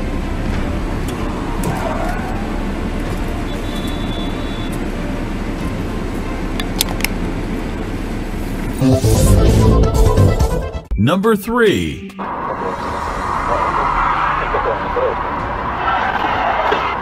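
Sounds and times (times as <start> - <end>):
car engine and road rumble: 0.0 - 10.6, 12.2 - 17.0.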